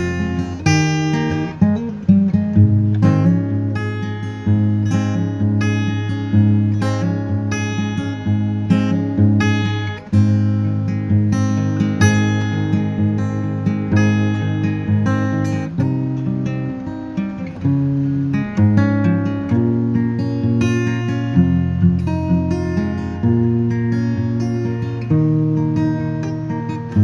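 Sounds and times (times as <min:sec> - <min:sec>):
strummed acoustic guitar: 0:00.0 - 0:27.0.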